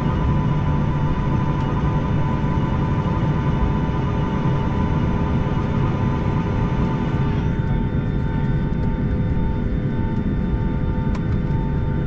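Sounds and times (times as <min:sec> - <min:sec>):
jet engine rumble with whine: 0:00.0 - 0:12.0.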